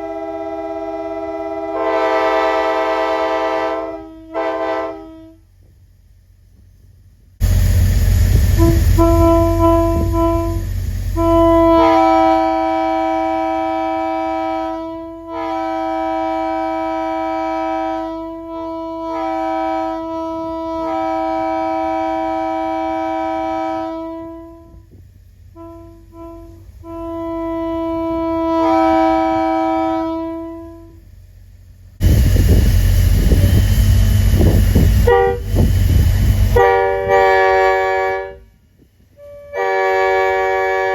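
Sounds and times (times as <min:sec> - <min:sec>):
locomotive air horn: 0:00.0 - 0:05.5, 0:08.3 - 0:31.0, 0:33.2 - 0:40.9.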